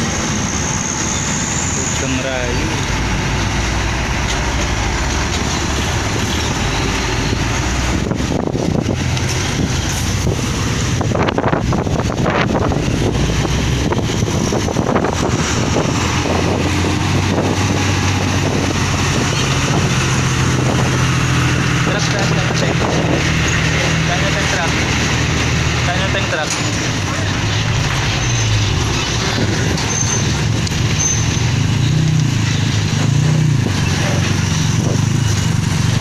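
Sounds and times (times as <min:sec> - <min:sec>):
diesel trucks driving past: 0:00.0 - 0:36.0
wind noise on microphone: 0:03.1 - 0:24.1, 0:26.8 - 0:36.0.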